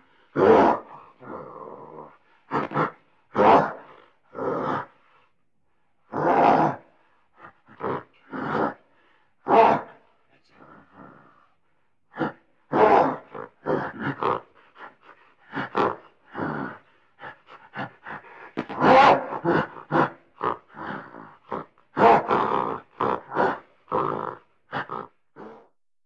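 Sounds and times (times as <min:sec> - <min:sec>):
gorilla grunting: 0:00.0 - 0:05.0, 0:06.1 - 0:25.8.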